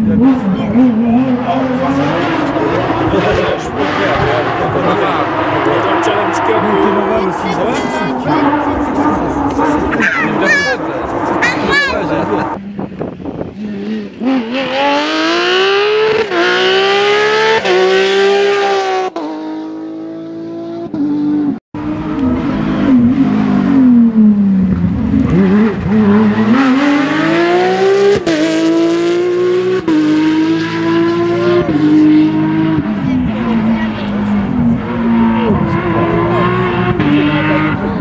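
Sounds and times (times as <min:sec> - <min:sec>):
car engine downshifting: 0:00.0 - 0:38.0
car engine revving through gears: 0:00.0 - 0:38.0.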